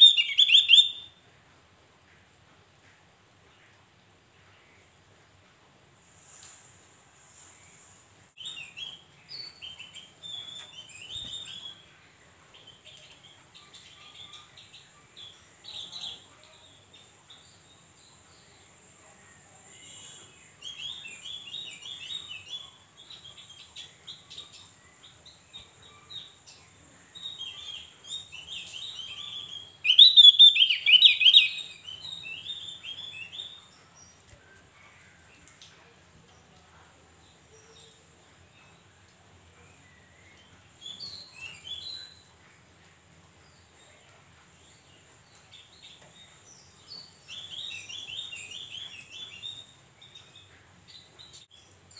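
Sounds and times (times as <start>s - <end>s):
bird chirping: 0.0s - 1.2s, 7.4s - 35.6s, 37.2s - 51.9s.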